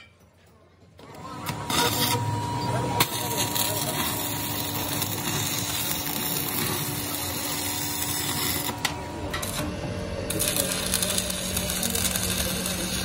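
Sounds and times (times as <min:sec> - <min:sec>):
welding arc crackling: 0:01.5 - 0:02.4, 0:03.0 - 0:13.0.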